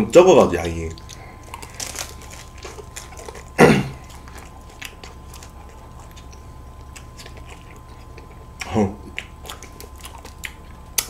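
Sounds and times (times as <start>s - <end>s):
biting and chewing wafer cone: 0.8s - 11.0s.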